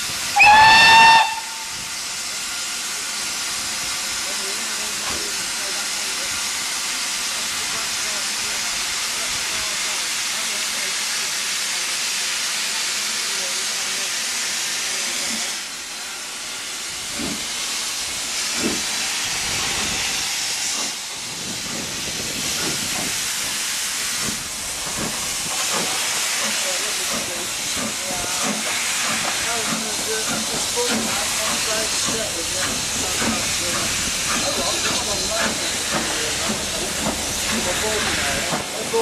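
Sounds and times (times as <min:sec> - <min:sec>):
steam hissing from locomotive: 0:00.0 - 0:39.0.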